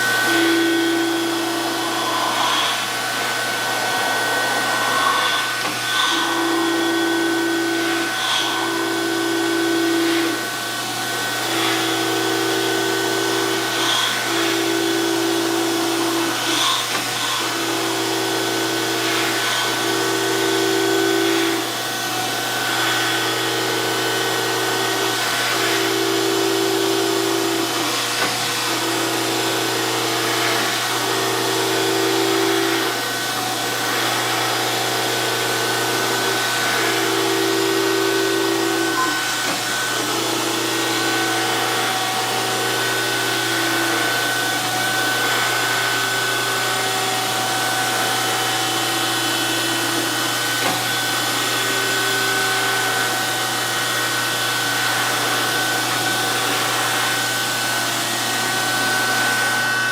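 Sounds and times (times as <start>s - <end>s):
grinder wheel humming and whining: 0.0s - 59.9s.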